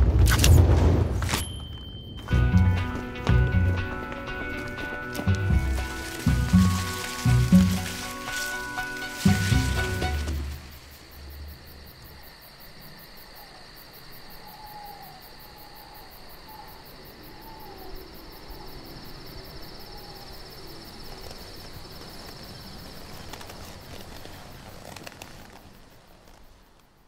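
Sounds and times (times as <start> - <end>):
insects chirring: 3.8 - 27.0.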